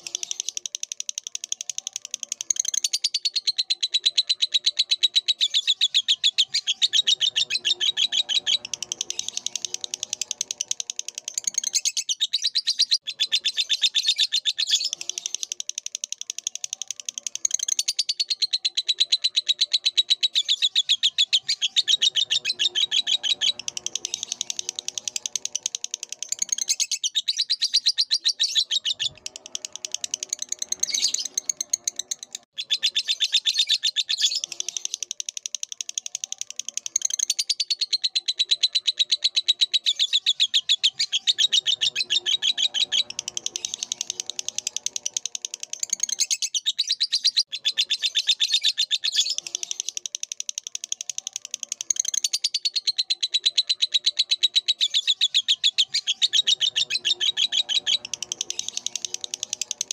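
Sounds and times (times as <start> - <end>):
bird chattering trill: 0.0 - 59.9.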